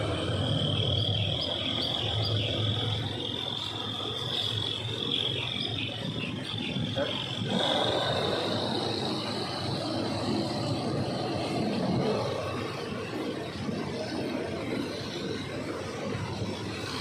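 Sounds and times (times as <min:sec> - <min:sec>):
vehicle running rumble: 0:00.0 - 0:17.0.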